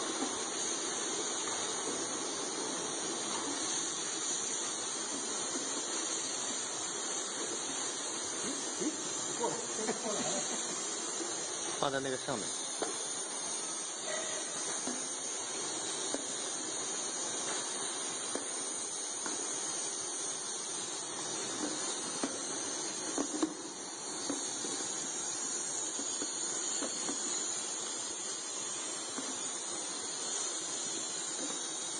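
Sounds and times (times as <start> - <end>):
labeling machine hissing: 0.0 - 31.9.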